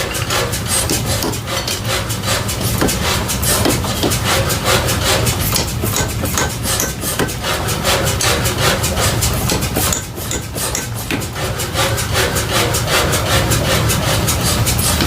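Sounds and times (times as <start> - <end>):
rasping metalworking strokes: 0.0 - 15.0.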